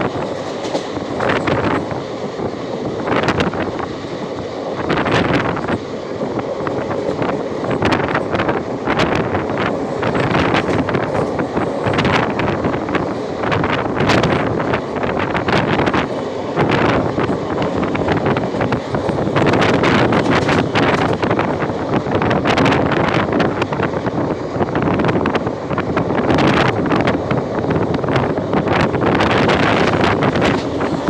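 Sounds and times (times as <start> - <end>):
moving train rumble: 0.0 - 31.0
wind buffeting microphone: 0.0 - 31.0.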